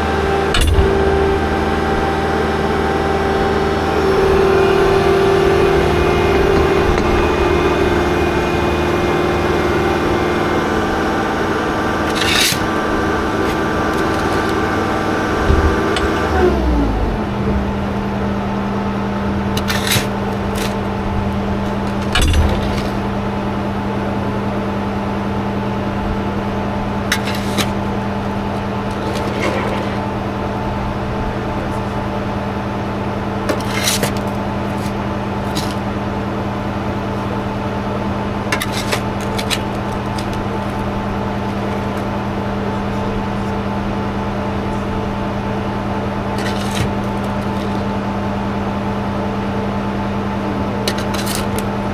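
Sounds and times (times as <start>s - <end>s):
machine engine idling: 0.0s - 51.9s.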